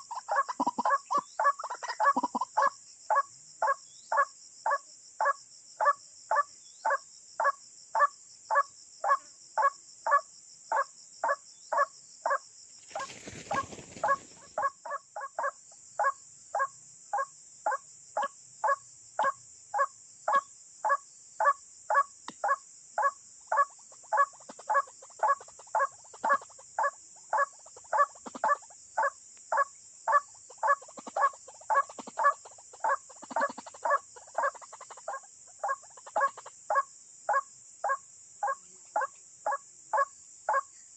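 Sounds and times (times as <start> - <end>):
waterhen calls: 0.0 - 16.7, 17.7 - 40.6.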